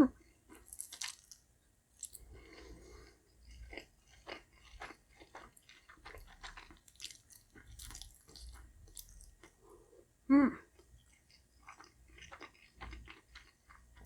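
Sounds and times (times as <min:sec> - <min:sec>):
chewing with wet mouth clicks: 0:00.5 - 0:09.6, 0:10.7 - 0:14.0.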